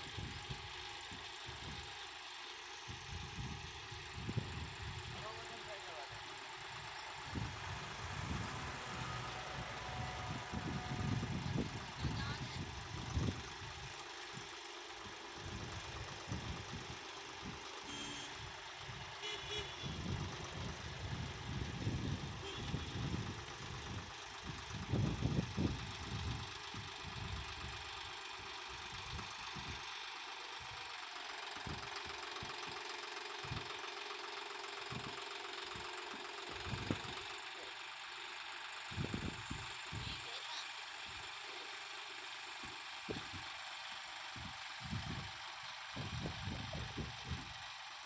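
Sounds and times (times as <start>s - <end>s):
tractor engine rumbling: 0.0s - 48.0s.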